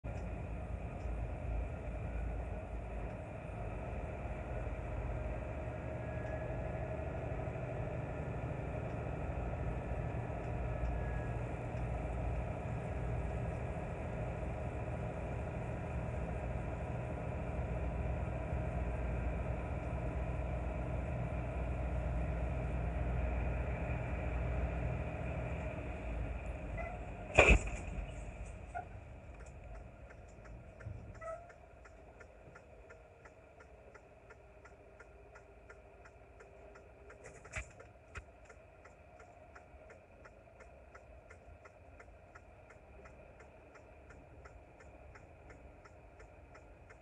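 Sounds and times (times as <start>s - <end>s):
road noise: 0.0s - 47.0s
truck engine drone: 0.0s - 47.0s.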